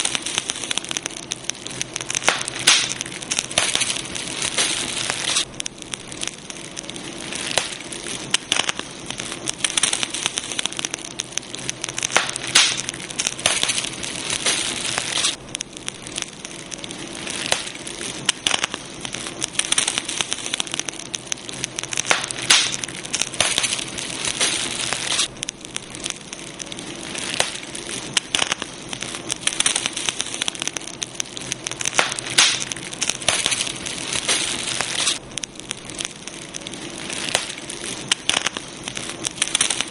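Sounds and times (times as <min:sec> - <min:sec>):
campfire crackling: 0:00.0 - 0:39.9
fire hissing: 0:00.0 - 0:39.9
fire popping: 0:00.0 - 0:39.9.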